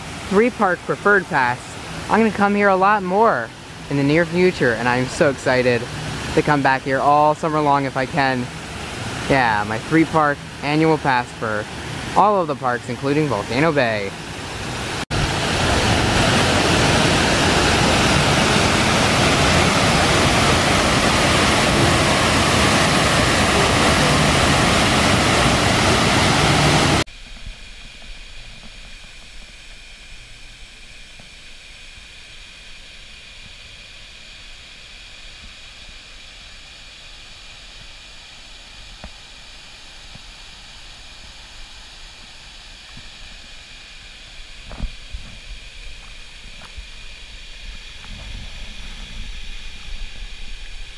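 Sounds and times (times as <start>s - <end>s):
water rushing: 0.0s - 28.9s, 36.8s - 50.9s.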